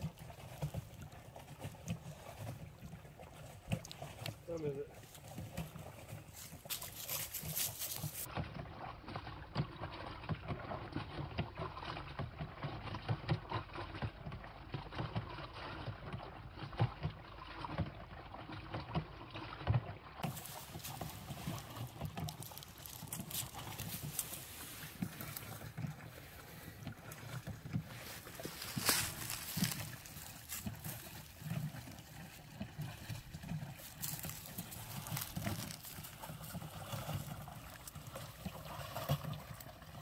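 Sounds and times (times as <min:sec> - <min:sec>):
water sloshing in washing machine: 0:00.0 - 0:40.0.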